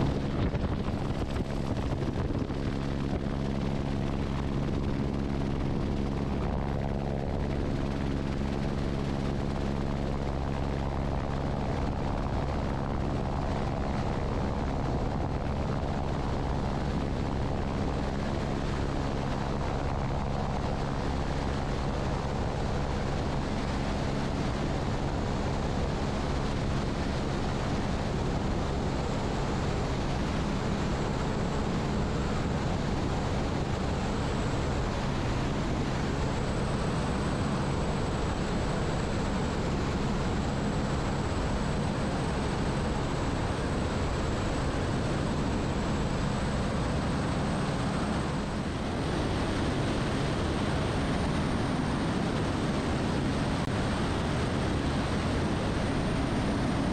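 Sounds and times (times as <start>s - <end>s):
helicopter turbine and rotor noise: 0.0s - 56.9s.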